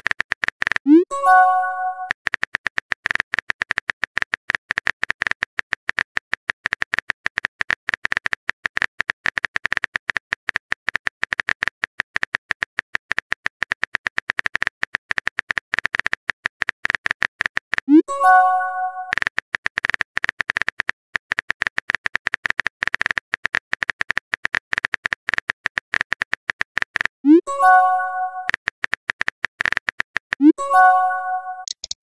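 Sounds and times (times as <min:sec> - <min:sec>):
rapid keyboard clicks: 0:00.0 - 0:00.9, 0:01.6 - 0:17.9, 0:18.6 - 0:32.0.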